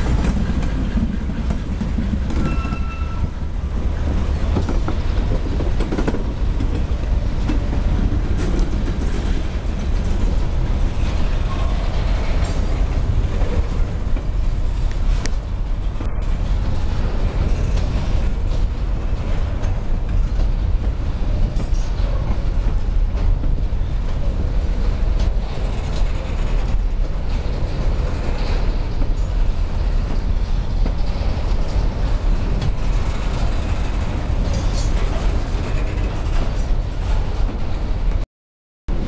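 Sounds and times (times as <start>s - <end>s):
steel wheels rumbling on rail: 0.0s - 38.2s.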